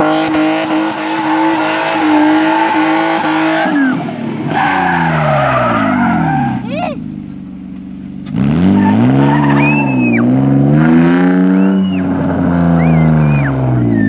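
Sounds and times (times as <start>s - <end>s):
car engine revving hard: 0.0s - 6.6s, 8.1s - 14.0s
tyre squeals: 1.2s - 10.3s, 11.4s - 14.0s.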